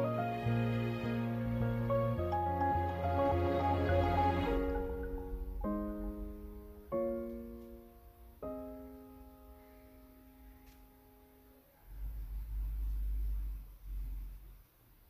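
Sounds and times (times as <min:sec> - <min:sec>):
low rumble: 0:00.0 - 0:09.8, 0:11.8 - 0:14.6
soft piano chords: 0:00.0 - 0:14.5.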